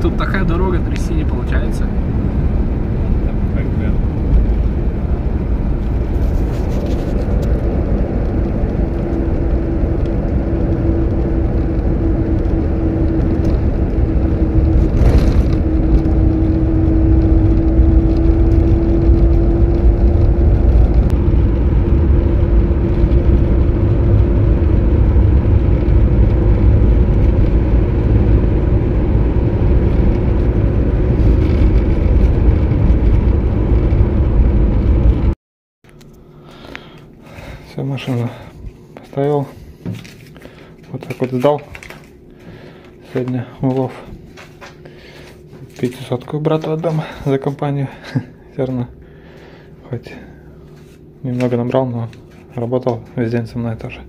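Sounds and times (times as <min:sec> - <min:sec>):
car engine drone: 0:00.0 - 0:54.0
low road rumble: 0:00.0 - 0:54.0.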